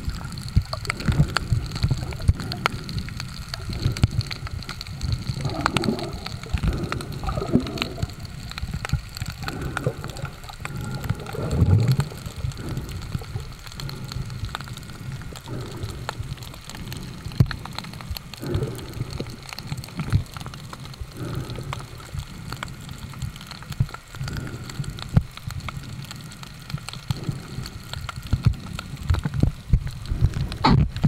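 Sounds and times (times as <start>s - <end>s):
small crackling clicks: 0.0s - 31.0s
underwater rumble of moving water: 0.0s - 31.0s.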